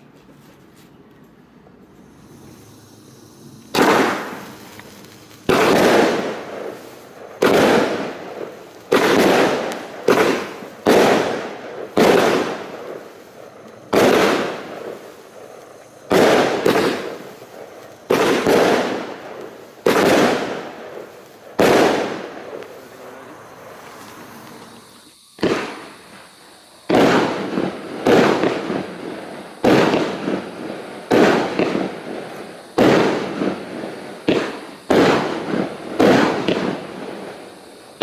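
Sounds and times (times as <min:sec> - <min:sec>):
fireworks bangs: 0:01.6 - 0:38.0.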